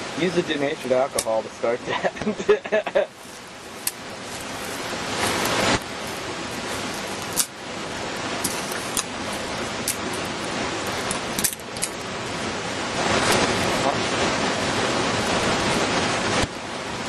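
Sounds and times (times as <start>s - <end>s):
flames hissing: 0.0s - 17.0s
fire crackling and popping: 3.1s - 17.0s.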